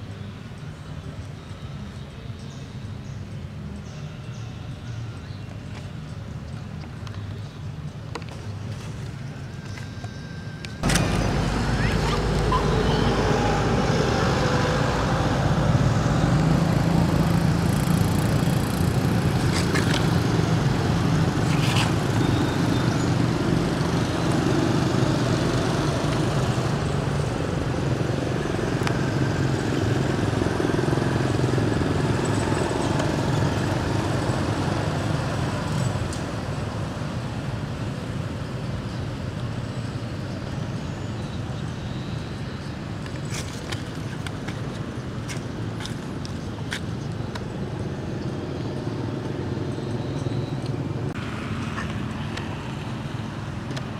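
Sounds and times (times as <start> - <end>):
low rumble of traffic: 0.0 - 53.9.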